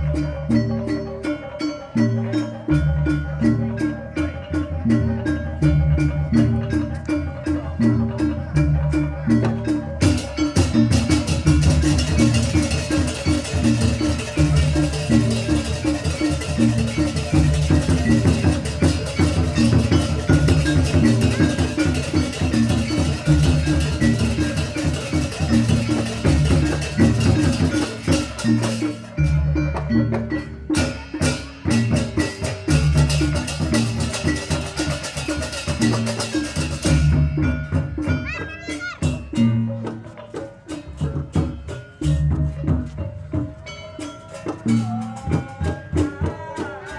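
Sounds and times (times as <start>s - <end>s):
drums: 0.0s - 46.9s
shimmering percussion: 0.0s - 46.9s
tuned metal mallet instruments: 0.0s - 46.9s.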